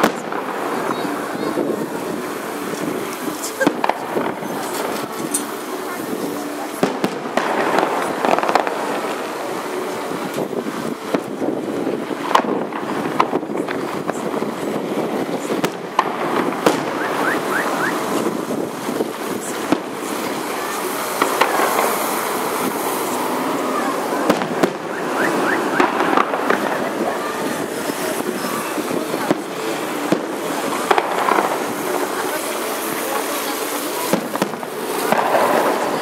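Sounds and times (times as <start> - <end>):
city traffic hiss: 0.0 - 36.0
distant fireworks bangs and pops: 0.0 - 36.0.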